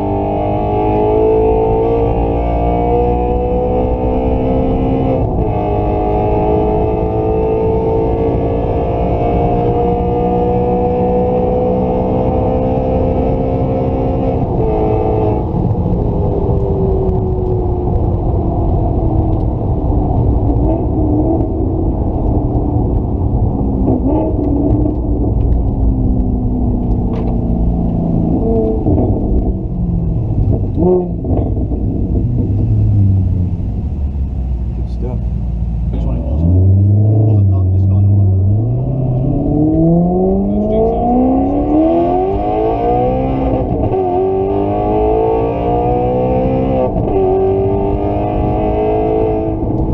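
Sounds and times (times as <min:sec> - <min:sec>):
car engine at speed: 0:00.0 - 0:49.9.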